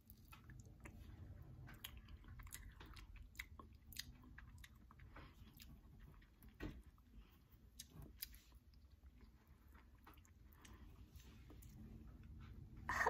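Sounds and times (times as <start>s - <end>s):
faint chewing of gummy candy: 0.0s - 13.0s.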